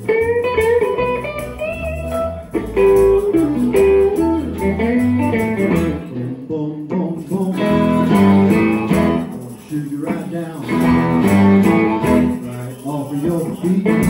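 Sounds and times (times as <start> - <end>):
upright double bass: 0.0 - 9.6, 10.6 - 14.0
electric guitars: 0.0 - 14.0.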